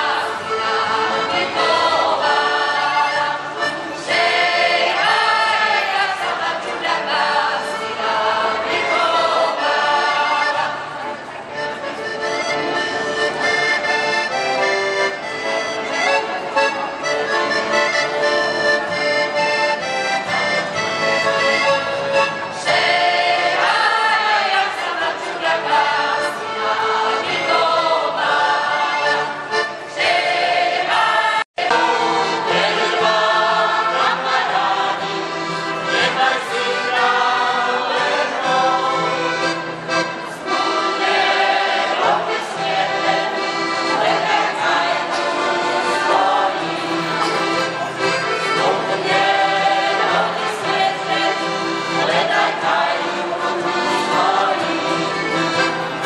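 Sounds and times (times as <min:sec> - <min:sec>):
choir singing: 0:00.0 - 0:11.2, 0:19.8 - 0:56.0
accordion playing folk tune: 0:00.0 - 0:56.0.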